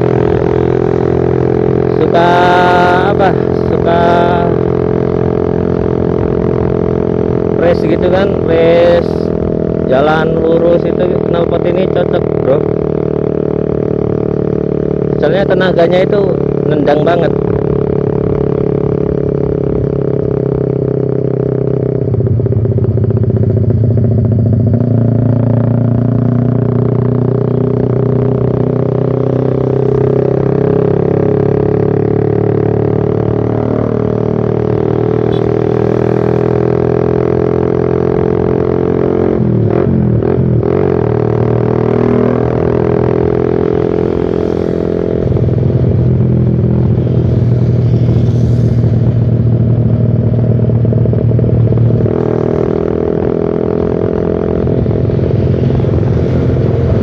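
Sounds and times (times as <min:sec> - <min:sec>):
loud motorcycle engine revving: 0:00.0 - 0:57.0.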